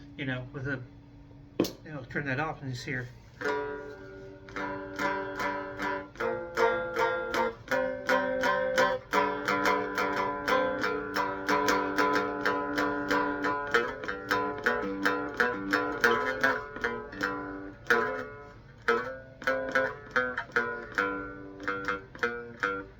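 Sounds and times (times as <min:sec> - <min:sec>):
plucked guitar notes: 0:03.4 - 0:22.9.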